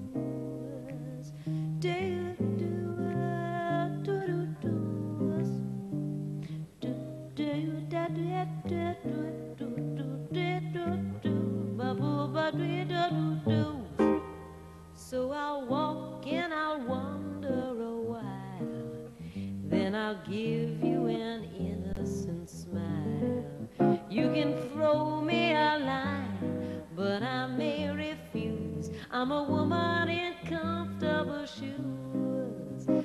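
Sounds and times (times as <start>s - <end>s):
jazz guitar bass notes and chords: 0.0s - 33.0s
woman singing: 0.0s - 33.0s.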